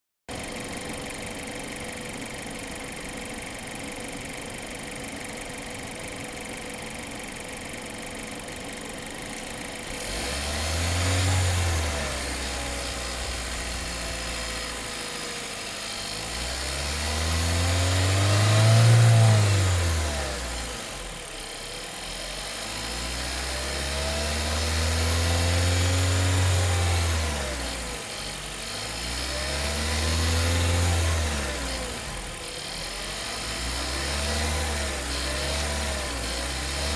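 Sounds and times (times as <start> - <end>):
car engine idling and revving: 0.3 - 36.9
engine rattle: 0.3 - 36.9.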